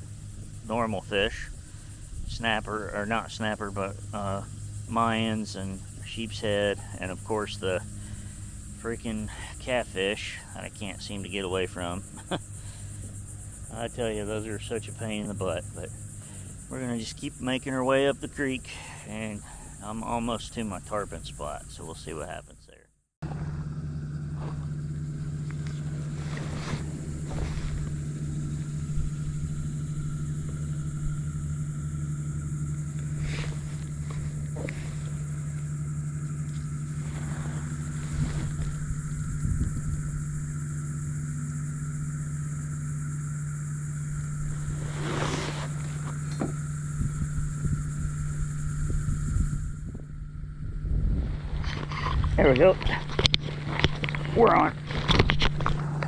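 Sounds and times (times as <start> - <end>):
small motor humming with whine: 0.0 - 21.8, 23.2 - 56.0.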